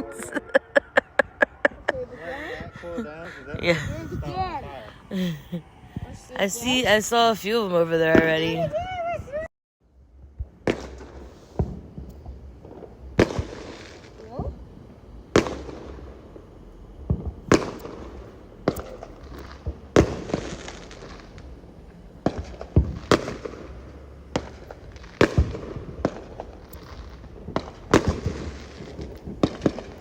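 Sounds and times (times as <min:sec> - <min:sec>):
fireworks banging: 0:00.0 - 0:09.4, 0:10.2 - 0:30.0.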